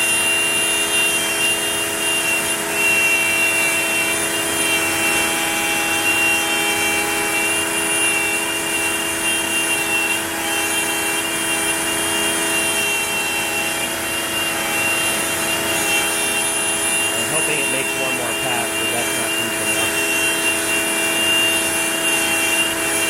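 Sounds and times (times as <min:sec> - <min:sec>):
bit cutting wood: 0:00.0 - 0:23.0
router spindle whining: 0:00.0 - 0:23.0.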